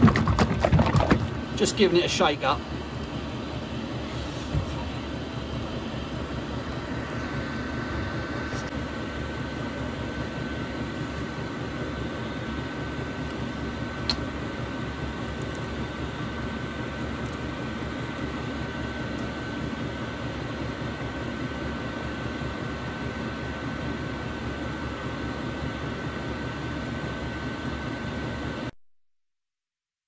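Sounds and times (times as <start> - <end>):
mechanical whir with high whine: 0.9 - 28.7.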